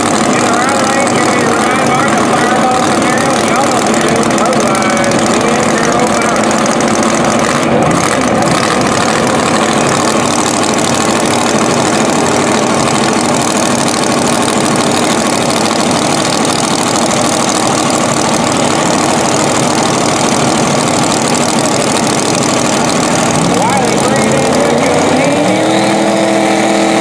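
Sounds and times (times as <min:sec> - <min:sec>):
race car engine idling: 0:00.0 - 0:27.0.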